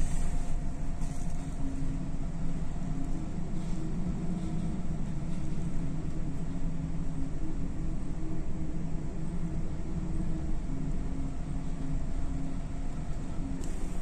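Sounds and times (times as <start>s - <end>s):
ship machinery and storm drone: 0.0s - 14.0s.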